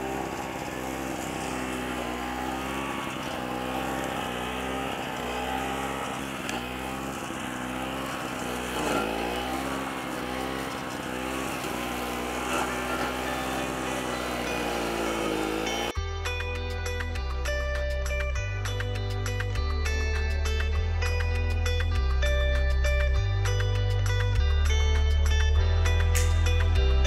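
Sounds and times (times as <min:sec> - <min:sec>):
mower engine cutting grass: 0:00.0 - 0:27.0.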